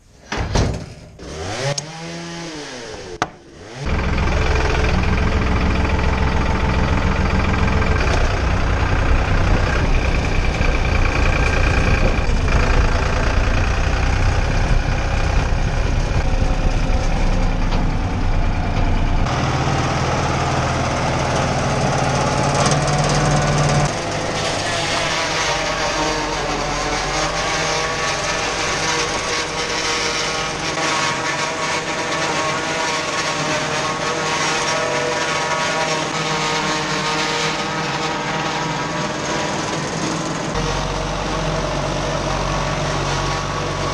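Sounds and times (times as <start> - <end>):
corn chopper running: 1.2 - 18.4, 19.2 - 43.9
tractor diesel engine running: 3.7 - 43.9.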